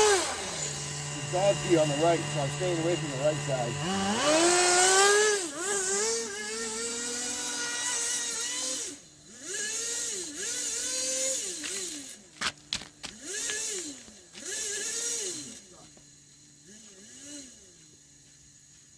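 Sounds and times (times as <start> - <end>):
small nitro engine revving: 0.0 - 18.9.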